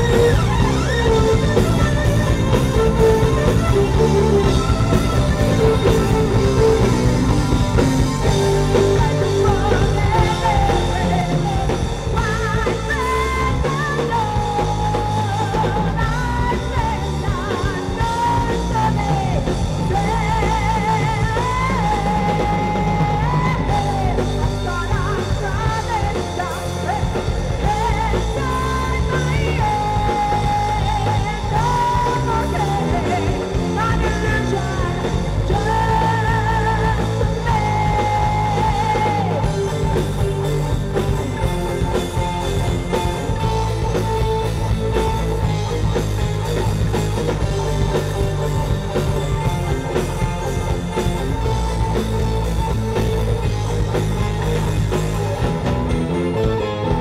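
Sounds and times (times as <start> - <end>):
rock band playing: 0.0 - 57.0
singer holding long notes: 0.0 - 57.0.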